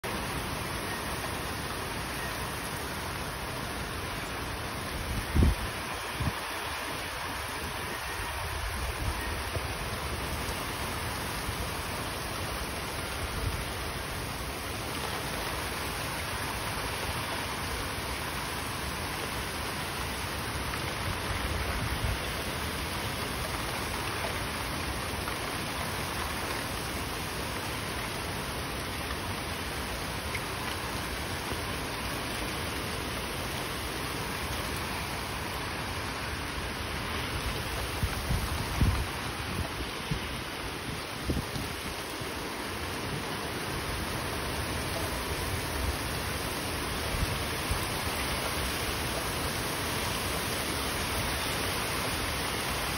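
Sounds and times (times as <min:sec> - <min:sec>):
heavy rain pouring: 0:00.0 - 0:52.9
wind rumbling on microphone: 0:02.4 - 0:52.9.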